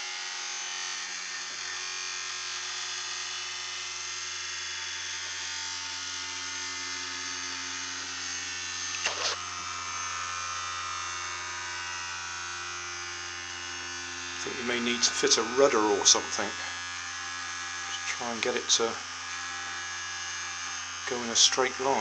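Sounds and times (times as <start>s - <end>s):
small motor buzzing: 0.0s - 22.0s.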